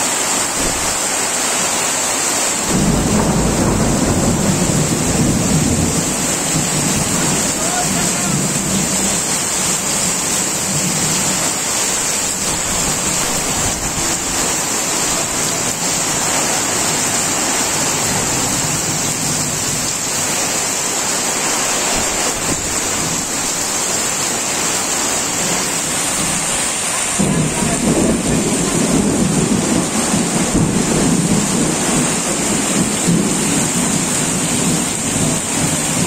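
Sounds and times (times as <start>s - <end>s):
heavy rain on tin roofs: 0.0s - 36.0s.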